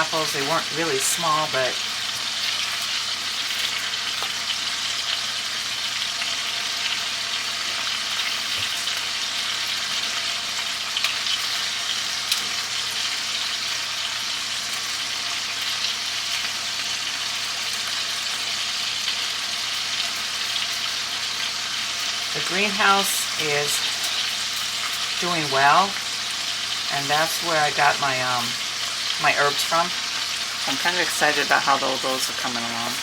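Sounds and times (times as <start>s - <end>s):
chicken sizzling in a skillet: 0.0s - 33.0s.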